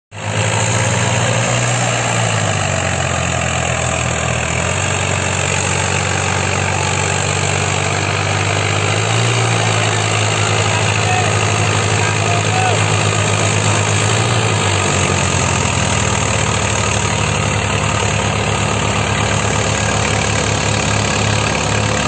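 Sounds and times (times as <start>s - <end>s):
tractor diesel engines under load: 0.1s - 22.0s.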